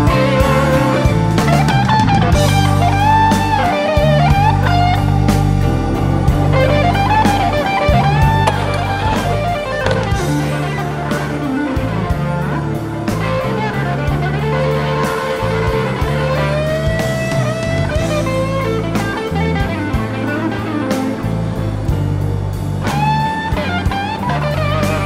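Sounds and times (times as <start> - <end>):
electric guitar song with drums: 0.0 - 25.0.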